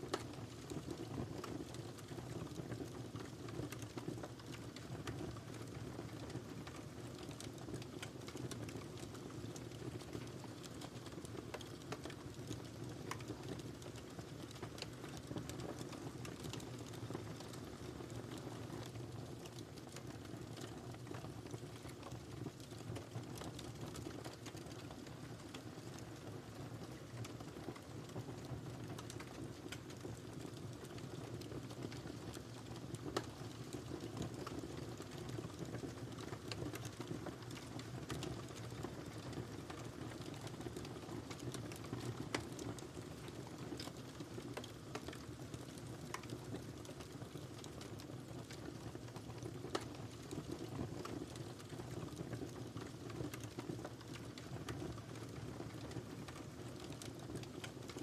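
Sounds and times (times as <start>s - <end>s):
wood fire crackling: 0.0s - 58.0s
low rumble of flames: 0.1s - 58.0s.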